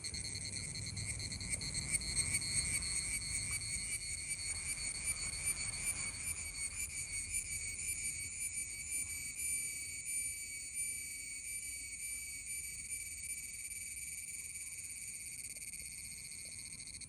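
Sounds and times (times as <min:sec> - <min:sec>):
cicada buzzing: 0:00.0 - 0:17.0.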